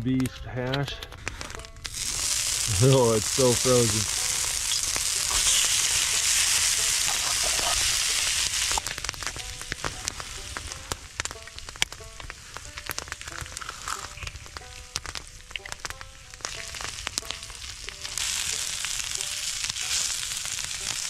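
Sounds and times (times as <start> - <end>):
crackles and pops of frying: 0.0 - 21.0
food sizzling on a skillet: 1.3 - 21.0.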